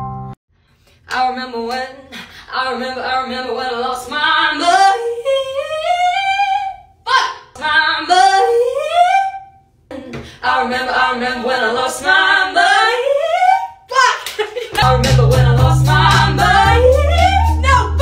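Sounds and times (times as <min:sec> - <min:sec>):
woman singing a cappella: 0:01.0 - 0:18.0.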